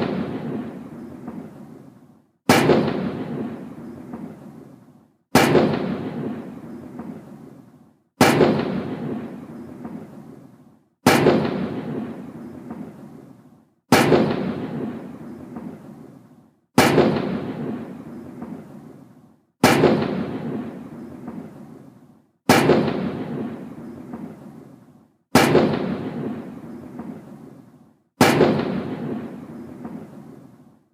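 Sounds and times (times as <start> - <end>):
cannon firing booming shots: 0.0 - 13.3, 13.9 - 16.2, 16.8 - 19.0, 19.6 - 30.6.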